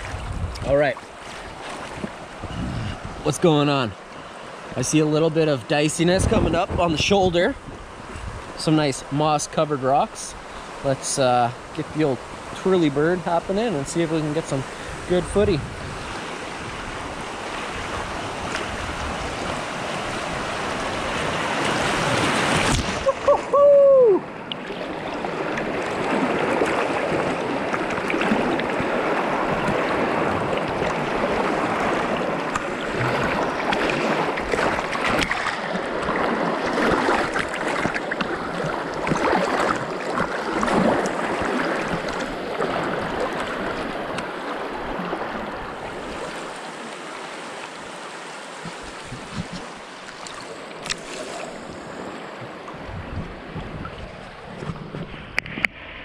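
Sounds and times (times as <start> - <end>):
river water rushing: 0.0 - 6.0, 10.3 - 56.0.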